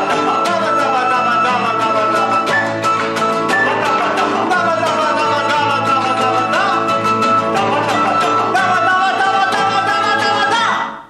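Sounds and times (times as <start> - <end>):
guitars strummed: 0.0 - 11.0.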